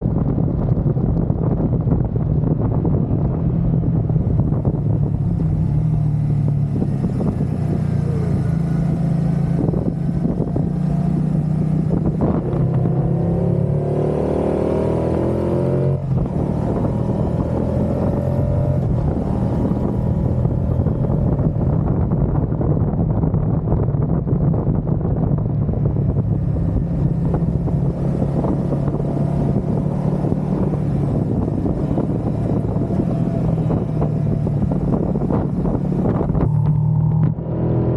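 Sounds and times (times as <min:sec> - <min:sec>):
motorcycle engine running: 0:00.0 - 0:37.9
wind buffeting microphone: 0:00.0 - 0:37.9.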